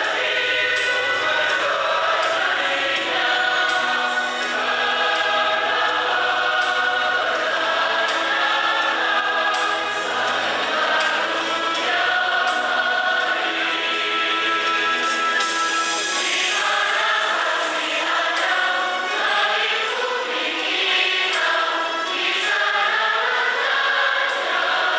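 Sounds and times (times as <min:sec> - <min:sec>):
choir singing in harmony: 0:00.0 - 0:24.9.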